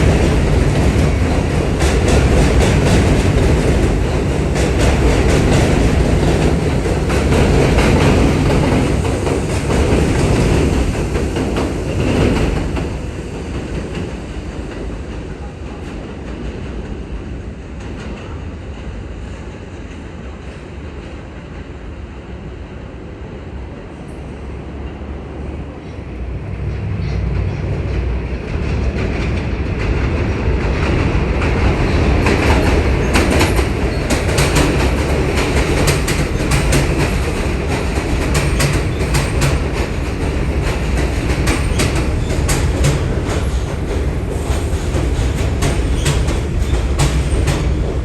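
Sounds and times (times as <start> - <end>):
subway train rumbling: 0.0 - 48.0.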